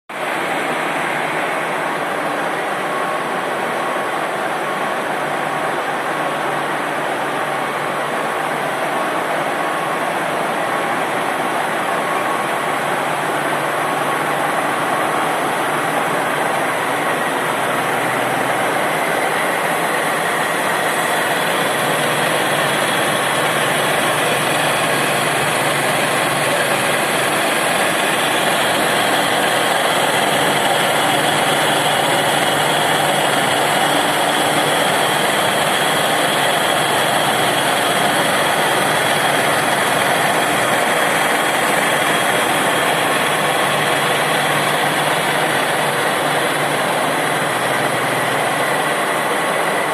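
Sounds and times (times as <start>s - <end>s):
milling machine running: 4.7s - 49.9s.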